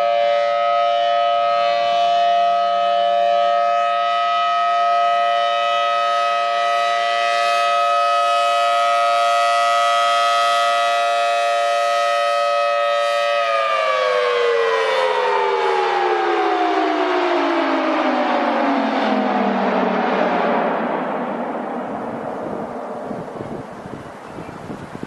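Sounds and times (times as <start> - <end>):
warning siren chord: 0.0 - 24.2.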